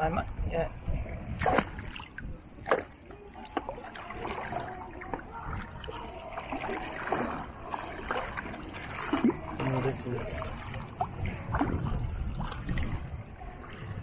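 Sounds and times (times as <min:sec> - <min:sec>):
water sloshing and splashing: 0:00.8 - 0:14.0.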